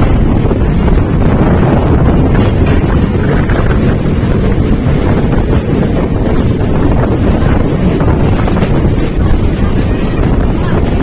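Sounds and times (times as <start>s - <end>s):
moving train rumble: 0.0s - 11.0s
wind buffeting microphone: 0.0s - 11.0s.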